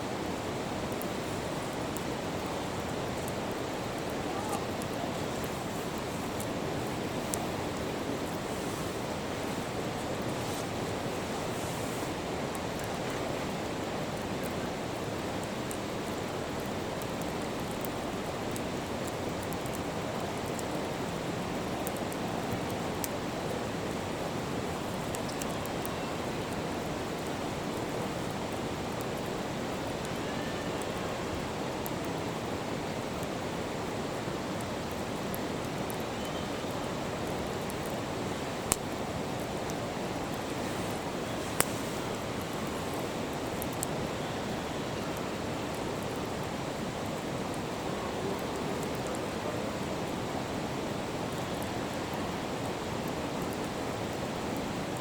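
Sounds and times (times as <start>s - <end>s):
river rushing: 0.0s - 55.0s
faint crackling ticks: 0.4s - 32.5s, 33.2s - 46.3s.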